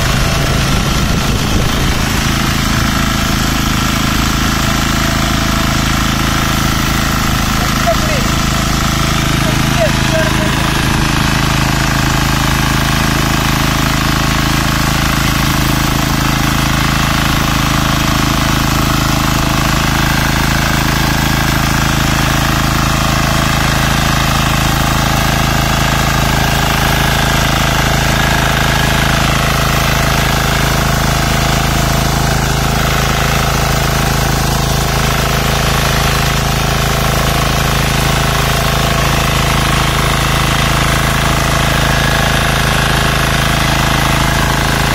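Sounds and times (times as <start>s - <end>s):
power weeder engine running: 0.0s - 44.9s.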